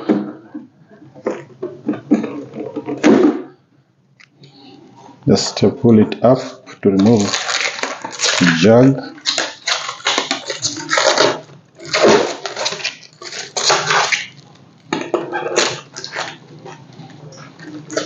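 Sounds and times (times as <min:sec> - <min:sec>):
hard plastic scraping and rustling: 0:00.0 - 0:03.6, 0:06.3 - 0:18.0.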